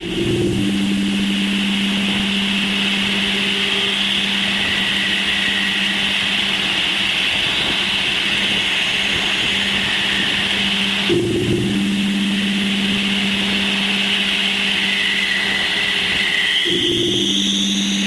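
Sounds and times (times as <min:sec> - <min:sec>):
constant low hum: 0:00.0 - 0:18.0
steady high hiss: 0:00.0 - 0:18.0.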